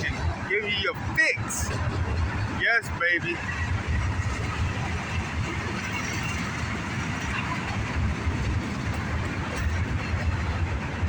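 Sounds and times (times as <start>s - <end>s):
freight train wheels rumbling on rail: 0.0s - 11.0s.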